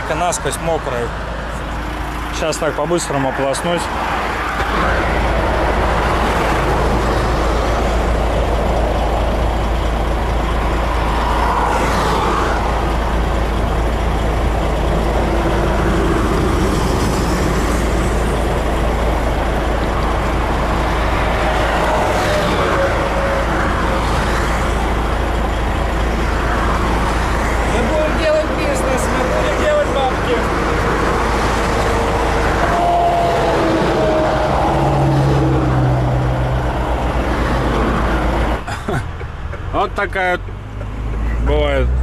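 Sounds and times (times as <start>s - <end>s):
highway traffic: 0.0s - 42.0s
vehicles sweeping past: 0.0s - 42.0s.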